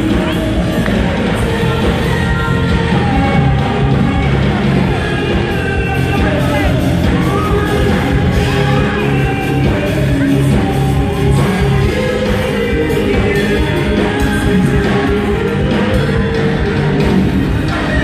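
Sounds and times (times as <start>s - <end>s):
live band music with singer: 0.0s - 18.0s.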